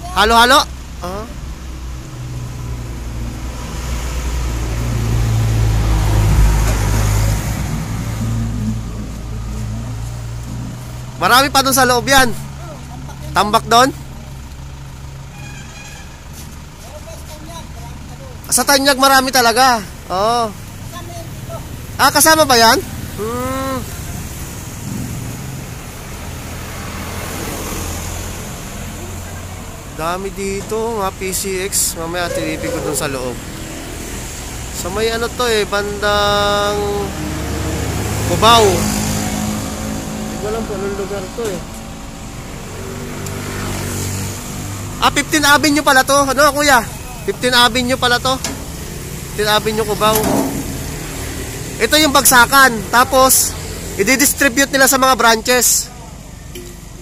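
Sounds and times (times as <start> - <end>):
traffic engine drone: 0.0 - 57.0
vehicle passing close: 1.7 - 15.3, 21.3 - 30.0, 32.0 - 55.5.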